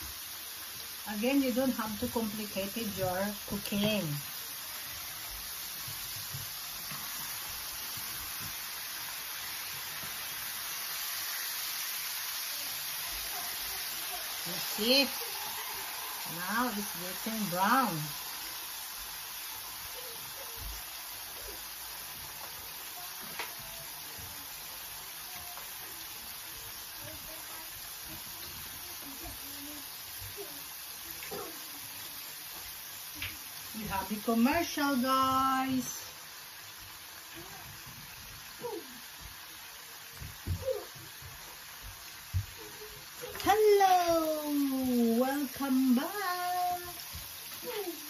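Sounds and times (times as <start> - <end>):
hot oil sizzling: 0.0 - 48.0.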